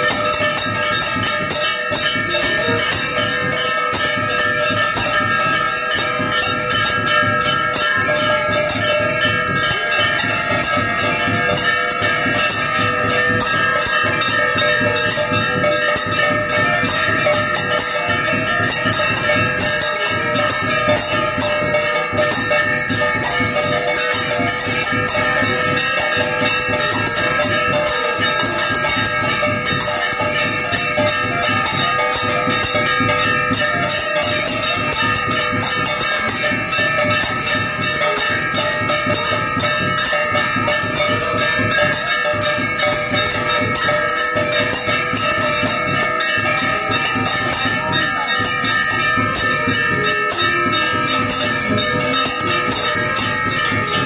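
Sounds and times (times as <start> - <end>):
temple bells ringing: 0.0 - 54.0.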